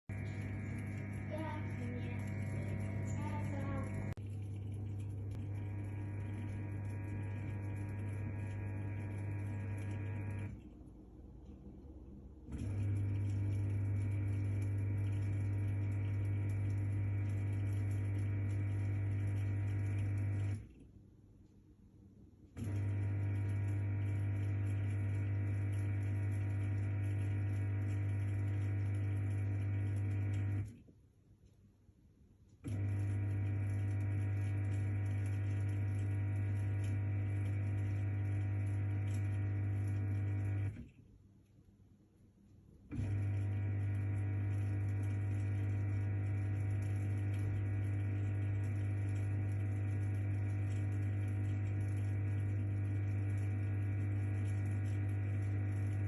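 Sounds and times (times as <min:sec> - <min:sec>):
dishwasher pump motor humming: 0:00.0 - 0:10.7, 0:12.4 - 0:20.8, 0:22.5 - 0:30.8, 0:32.6 - 0:40.9, 0:42.9 - 0:56.0.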